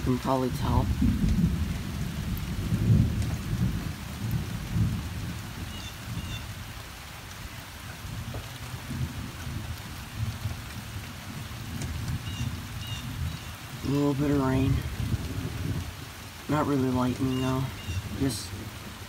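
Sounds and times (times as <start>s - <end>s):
light rain falling: 0.0s - 19.0s
thunder rumbling: 0.0s - 19.0s.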